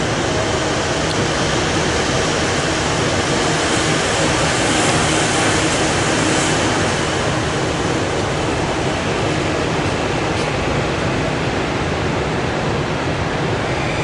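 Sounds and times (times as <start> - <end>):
train rumble from inside carriage: 0.0 - 14.0.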